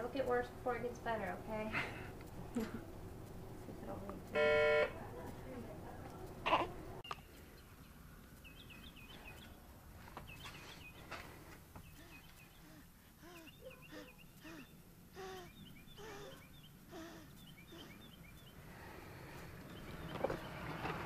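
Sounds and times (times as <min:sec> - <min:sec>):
birds chirping faintly: 0:00.1 - 0:21.0.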